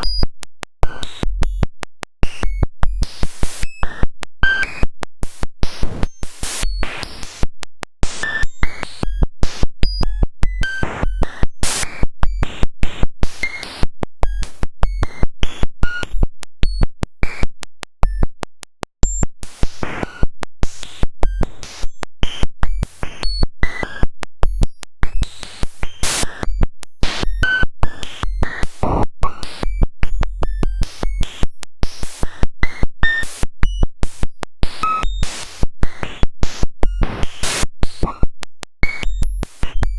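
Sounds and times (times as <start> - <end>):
glitchy electronic clicks: 0.0 - 39.9.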